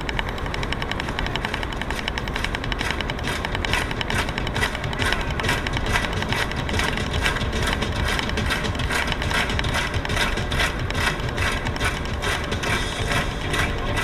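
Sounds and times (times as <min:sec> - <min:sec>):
quick regular ticking: 0:00.0 - 0:14.0.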